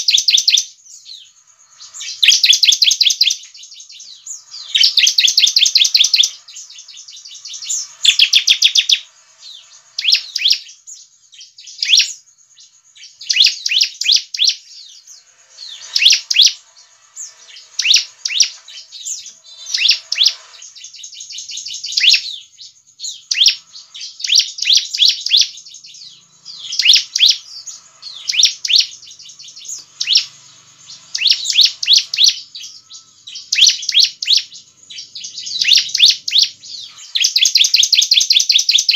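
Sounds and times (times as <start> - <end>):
bird rapid high chirping: 0.0 - 38.9.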